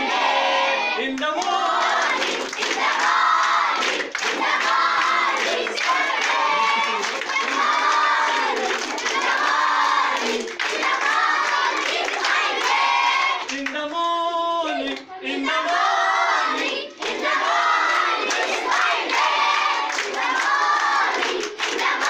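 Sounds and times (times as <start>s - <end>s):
girls singing in unison: 0.0s - 13.5s, 14.7s - 22.0s
hands clapping: 1.2s - 13.8s, 16.6s - 22.0s.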